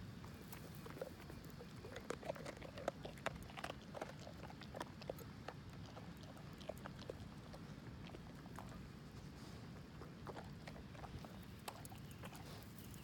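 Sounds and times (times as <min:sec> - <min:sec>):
dog chewing with crunching clicks: 0:00.2 - 0:13.0.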